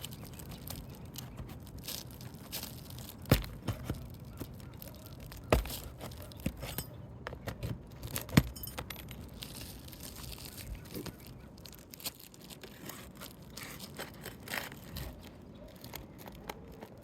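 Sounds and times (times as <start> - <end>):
roof shingles scraping and crackling: 0.0 - 17.0.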